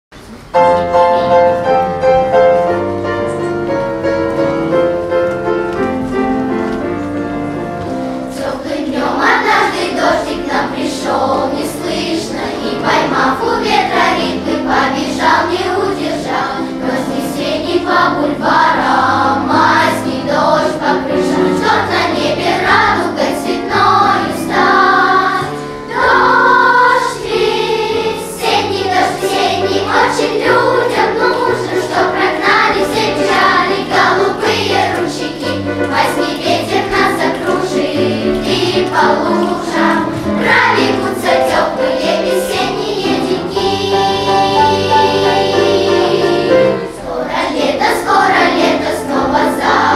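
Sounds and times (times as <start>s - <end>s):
musical accompaniment: 0.1s - 49.9s
children's choir singing: 0.3s - 49.9s.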